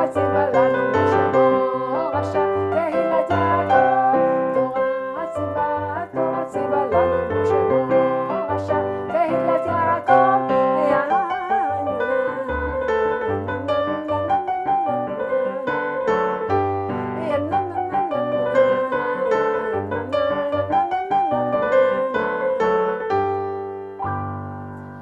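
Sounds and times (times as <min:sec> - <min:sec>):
electric keyboard melody: 0:00.0 - 0:25.0.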